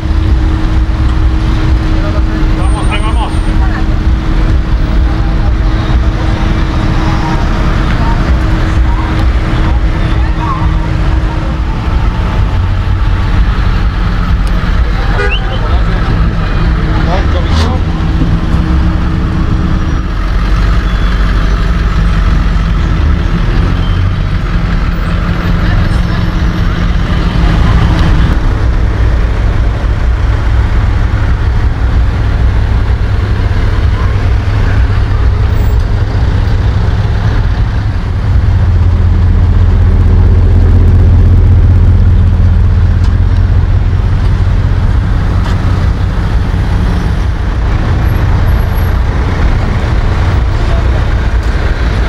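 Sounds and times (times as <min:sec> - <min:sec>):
traffic engine rumble: 0:00.0 - 0:52.0.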